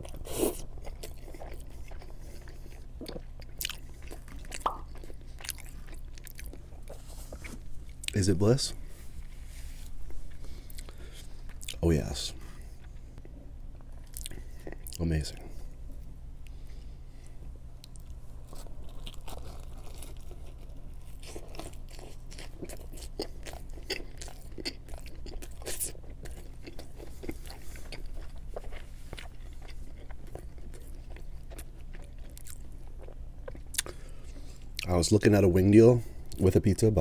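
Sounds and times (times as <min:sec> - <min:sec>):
chewing pizza crust: 0:00.0 - 0:08.3, 0:09.2 - 0:35.4.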